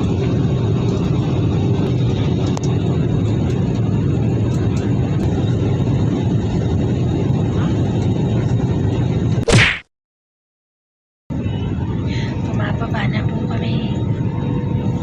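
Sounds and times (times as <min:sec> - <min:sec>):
airliner cabin engine rumble: 0:00.0 - 0:09.4, 0:11.3 - 0:15.0.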